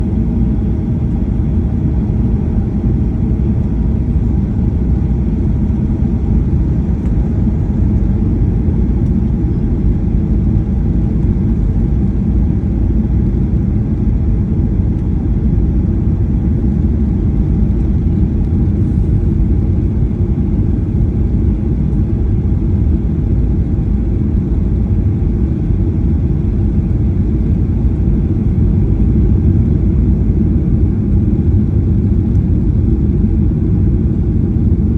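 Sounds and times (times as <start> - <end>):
jet engines rumbling in cabin: 0.0 - 34.9.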